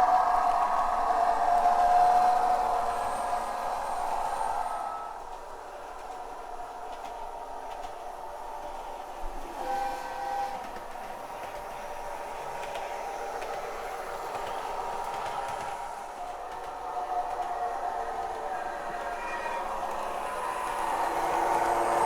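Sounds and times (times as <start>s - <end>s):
model train running sound from speaker: 0.0s - 22.0s.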